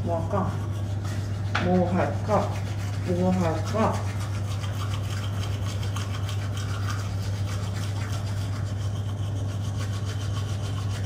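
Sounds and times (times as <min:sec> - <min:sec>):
steady low hum: 0:00.0 - 0:11.0
toothbrush scrubbing teeth: 0:00.0 - 0:11.0.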